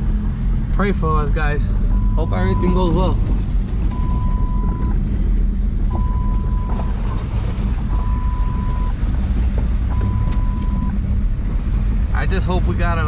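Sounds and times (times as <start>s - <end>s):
pickup truck engine and road rumble: 0.0s - 13.0s.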